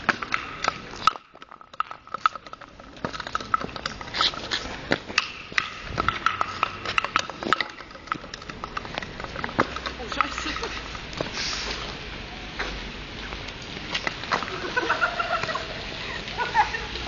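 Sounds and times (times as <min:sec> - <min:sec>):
footsteps on stone paving: 0:00.0 - 0:17.0.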